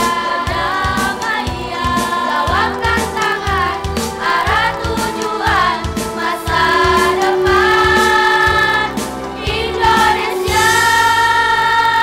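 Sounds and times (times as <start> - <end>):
girls' choir singing: 0.0 - 12.0.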